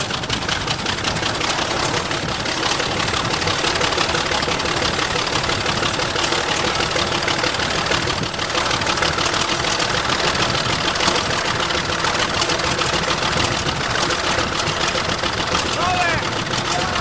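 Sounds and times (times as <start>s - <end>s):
bulldozer engine clattering: 0.0s - 17.0s.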